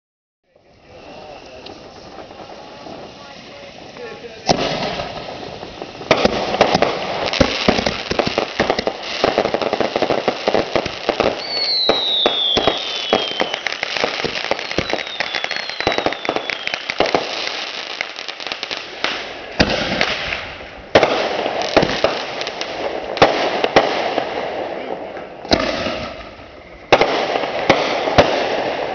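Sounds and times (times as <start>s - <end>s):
fireworks bangs and crackling: 0.5s - 28.9s
falling firework whistles: 0.6s - 24.3s, 25.4s - 28.9s.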